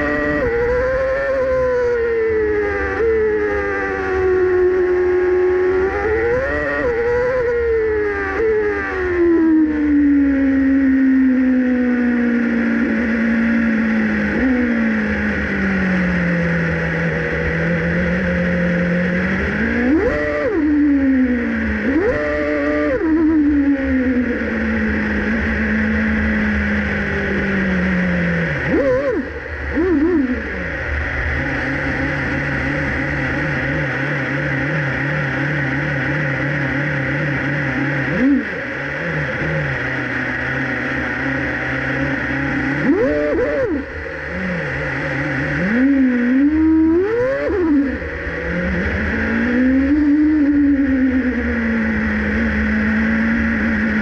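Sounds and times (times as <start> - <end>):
racing car engine at low revs: 0.0 - 54.0
sharp throttle blips: 0.0 - 54.0.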